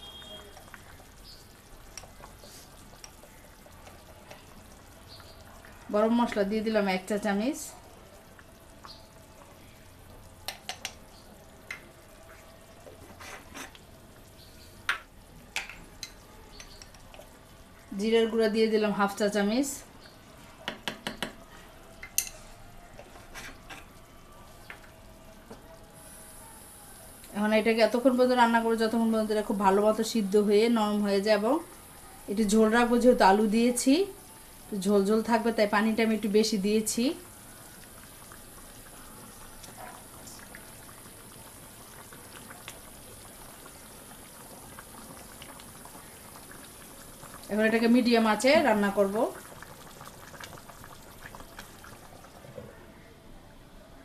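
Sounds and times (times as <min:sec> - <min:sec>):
gravy bubbling in a pan: 0:00.0 - 0:52.6.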